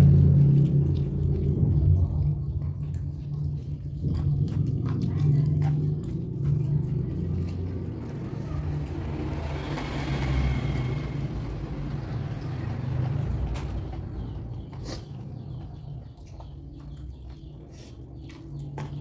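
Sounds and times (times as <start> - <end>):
low rumble: 0.0 - 17.4
vehicle passing: 0.0 - 19.0.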